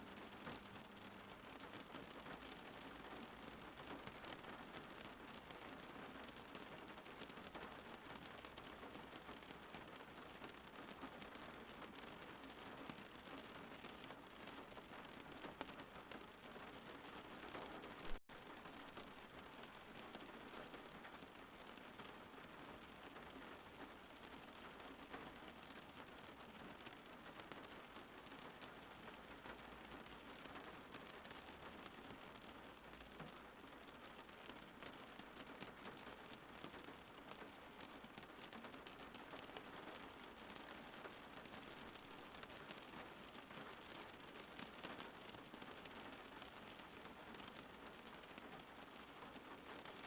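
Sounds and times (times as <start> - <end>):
steady rain patter: 0.0 - 50.0.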